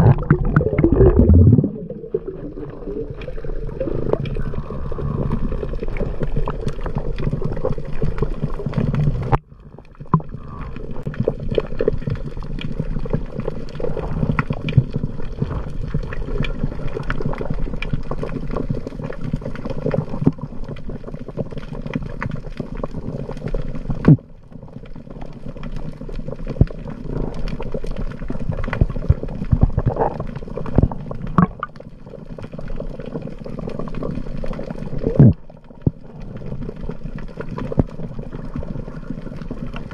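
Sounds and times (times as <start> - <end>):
muffled underwater rush: 0.0 - 39.9
small underwater clicks: 0.0 - 39.9.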